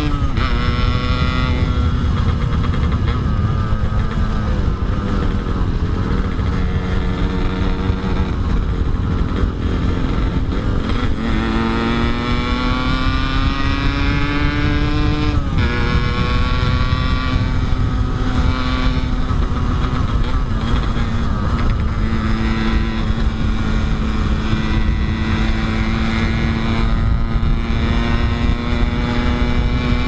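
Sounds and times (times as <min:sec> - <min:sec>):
motorcycle engine revving: 0:00.0 - 0:30.0
wind noise on microphone: 0:00.0 - 0:30.0.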